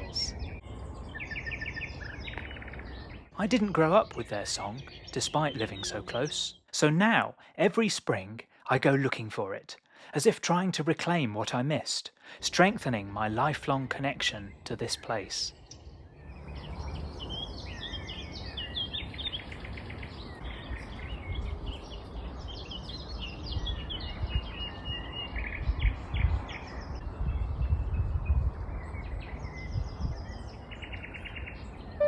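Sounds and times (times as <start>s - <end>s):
nightingale singing: 0.0s - 9.2s, 12.6s - 32.0s.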